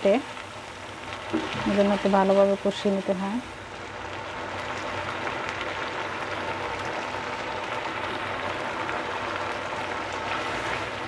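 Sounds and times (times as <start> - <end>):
spice paste sizzling in hot oil: 0.0 - 11.0.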